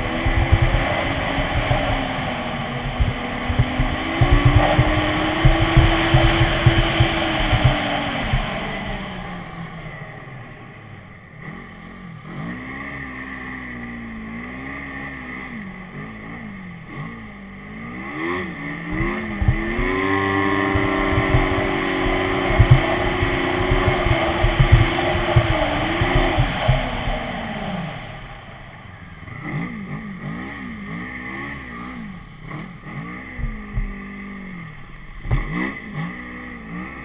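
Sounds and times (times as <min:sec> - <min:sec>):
snowmobile engine revving: 0:00.0 - 0:37.0.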